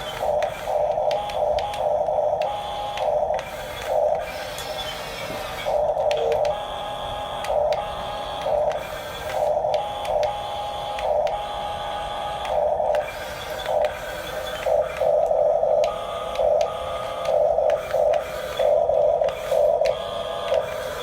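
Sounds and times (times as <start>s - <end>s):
steady motor hum: 0.0s - 21.0s
toy motors and gears whining: 0.0s - 21.0s.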